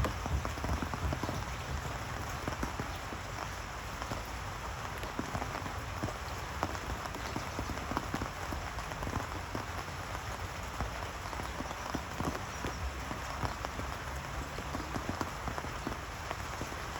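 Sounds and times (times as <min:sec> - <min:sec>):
raindrops striking a surface: 0:00.0 - 0:16.9
steady rain falling: 0:00.0 - 0:16.9.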